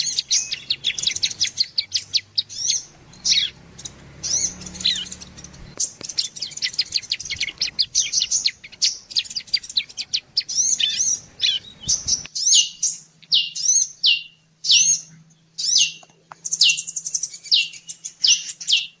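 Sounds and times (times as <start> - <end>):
high bird chirps and trills: 0.0 - 19.0.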